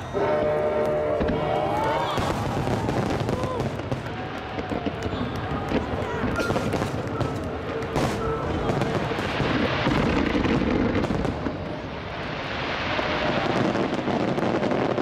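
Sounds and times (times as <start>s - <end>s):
fireworks booming and cracking: 0.0s - 15.0s.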